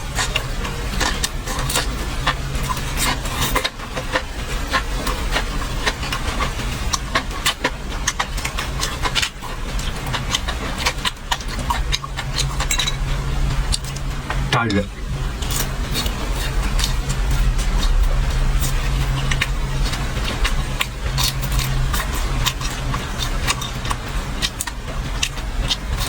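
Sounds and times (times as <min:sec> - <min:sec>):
chewing crispy fried food: 0:00.0 - 0:26.0
steady low hum: 0:00.0 - 0:26.0.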